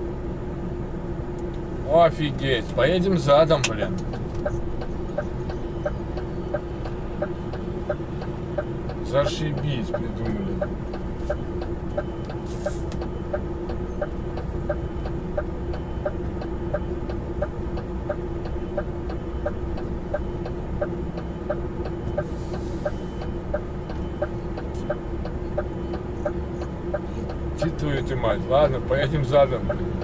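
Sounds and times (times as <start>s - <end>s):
diesel engine idling: 0.0s - 30.0s
turn signal ticking: 1.3s - 30.0s.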